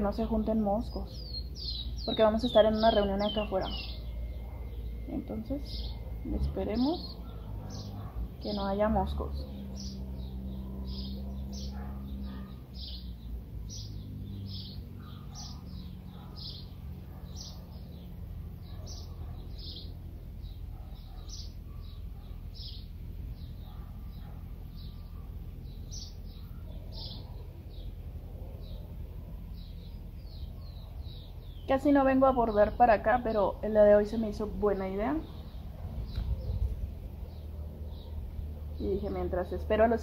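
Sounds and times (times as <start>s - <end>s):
low outdoor rumble: 0.0s - 40.0s
small bird chirping: 0.0s - 40.0s.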